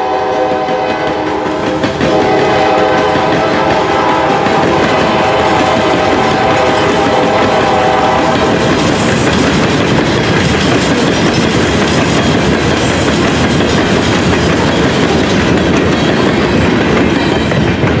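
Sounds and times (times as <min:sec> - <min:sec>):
freight train wheels clattering: 0:00.0 - 0:18.0.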